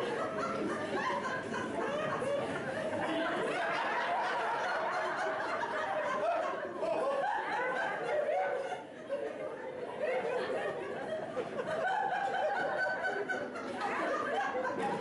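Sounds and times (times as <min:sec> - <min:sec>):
audience laughing: 0:00.0 - 0:15.0.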